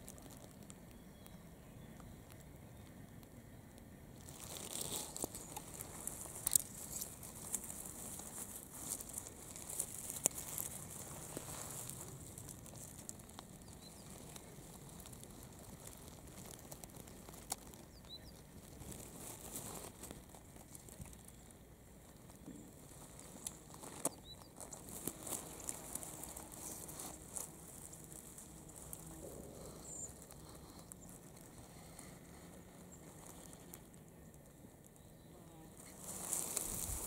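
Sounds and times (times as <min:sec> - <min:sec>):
dry grass and leaves rustling: 0:00.0 - 0:37.0.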